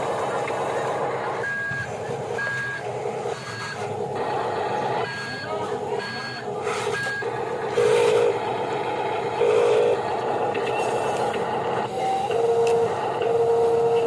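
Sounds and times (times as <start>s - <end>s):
electric motors whirring: 0.0s - 14.0s
high motor whine: 0.0s - 14.0s.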